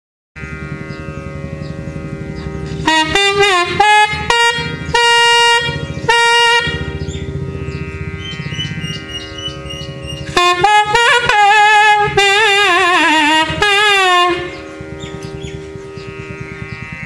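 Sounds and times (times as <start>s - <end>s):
double-reed pipe melody: 0.4s - 17.0s
steady drone: 0.4s - 17.0s.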